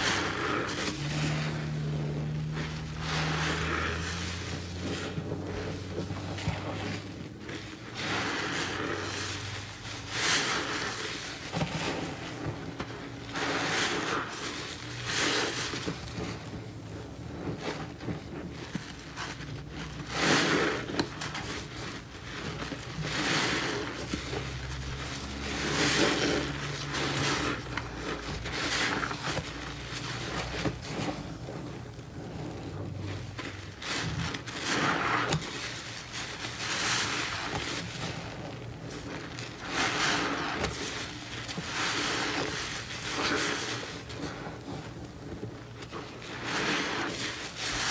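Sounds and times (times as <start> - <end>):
sponges squelching in soapy water: 0.0 - 47.9.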